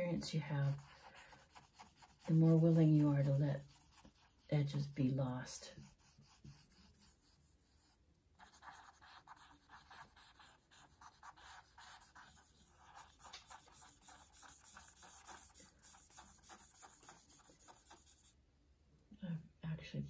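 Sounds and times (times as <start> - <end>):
charcoal scratching on paper: 0.0 - 18.4.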